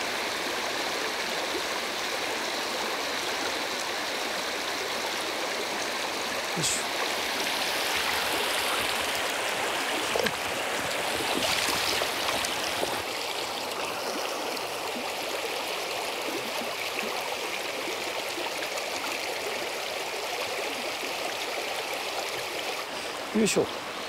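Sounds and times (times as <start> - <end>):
river rapids rushing over stones: 3.6 - 24.0.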